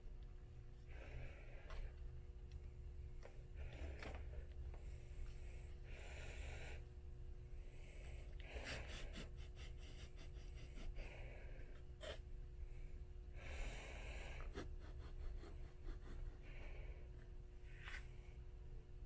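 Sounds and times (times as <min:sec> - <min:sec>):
steady low hum: 0:00.0 - 0:19.0
breathing close to microphone: 0:00.8 - 0:02.0, 0:03.5 - 0:18.4.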